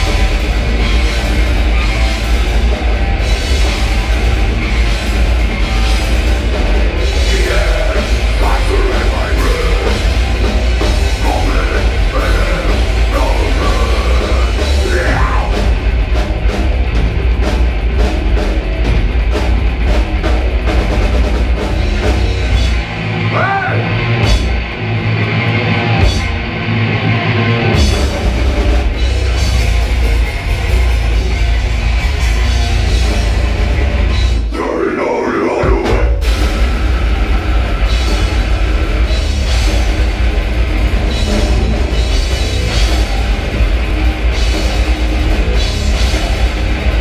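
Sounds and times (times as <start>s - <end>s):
heavy rock band playing live: 0.0s - 47.0s.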